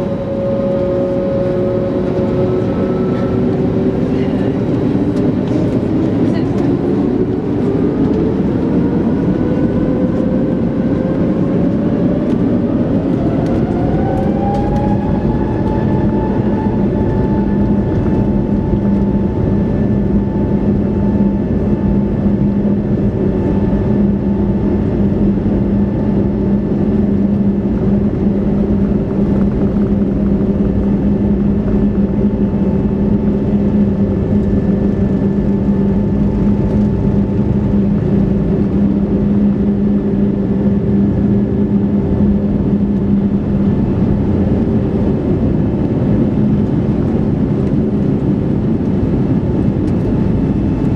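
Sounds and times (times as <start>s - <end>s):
deep engine rumble: 0.0s - 50.9s
jet engines whining: 0.0s - 50.9s.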